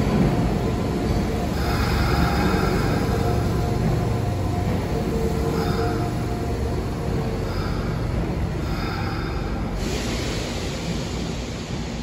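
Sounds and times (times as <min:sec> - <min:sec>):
steady hiss: 0:00.0 - 0:12.0
train rumbling along track: 0:00.0 - 0:12.0.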